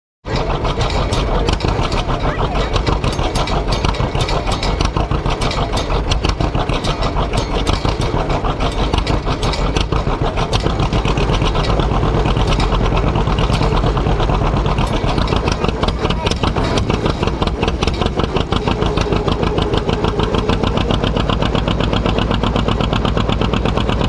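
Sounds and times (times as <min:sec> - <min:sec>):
tractor engine idling: 0:00.2 - 0:24.0.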